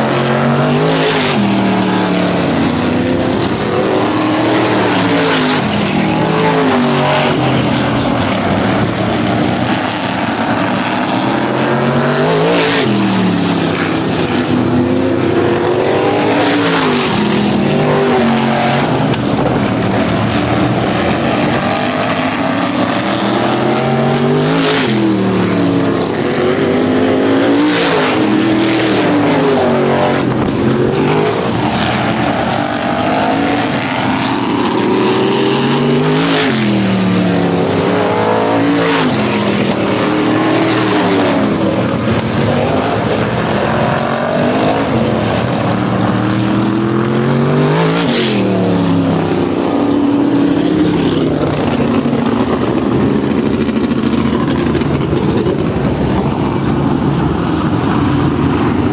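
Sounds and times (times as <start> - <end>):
race car engines running: 0.0 - 58.9
race car passing close: 0.0 - 58.9.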